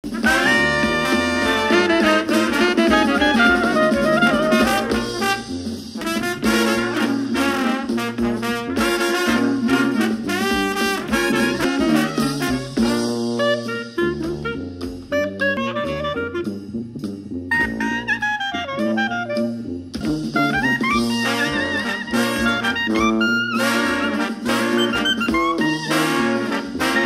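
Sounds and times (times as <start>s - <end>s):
instrumental music with steady beat: 0.0s - 27.0s.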